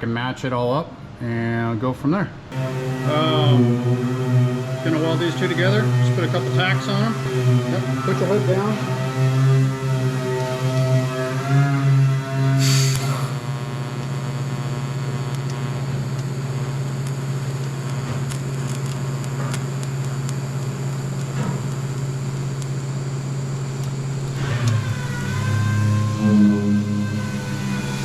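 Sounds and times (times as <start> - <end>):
welding arc crackle: 2.5 - 28.0
welding arc humming and hissing: 2.5 - 28.0.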